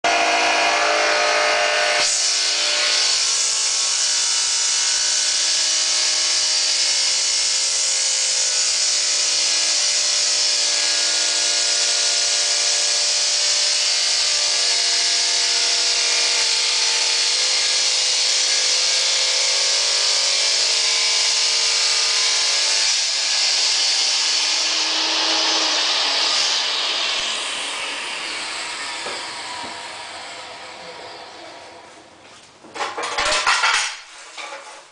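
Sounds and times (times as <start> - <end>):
saw blade grinding through tile: 0.1 - 31.7, 32.8 - 34.9
tile saw motor whine: 0.1 - 31.9.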